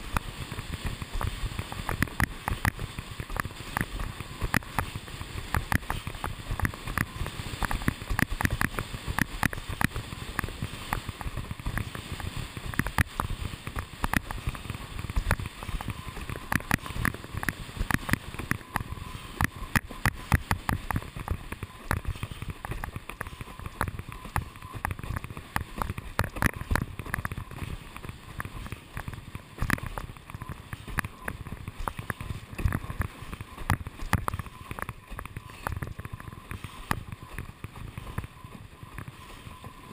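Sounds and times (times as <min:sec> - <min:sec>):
rush of water and wind: 0:00.0 - 0:39.9.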